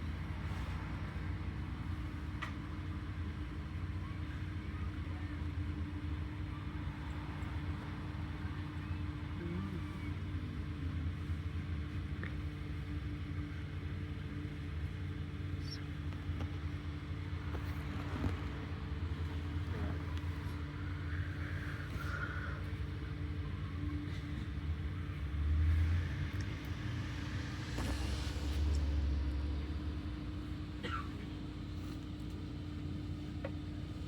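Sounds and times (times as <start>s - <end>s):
bus engine droning: 0.0s - 34.0s.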